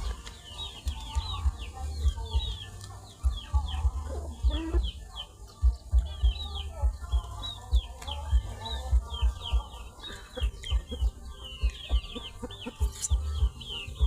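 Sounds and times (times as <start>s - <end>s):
chicken clucking: 0.0s - 14.0s
chicks peeping: 0.0s - 14.0s.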